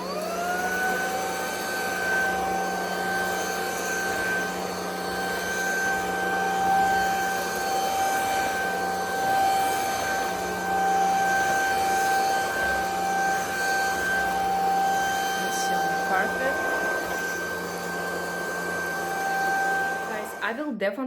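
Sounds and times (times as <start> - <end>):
vacuum cleaner motor whining: 0.0 - 20.6.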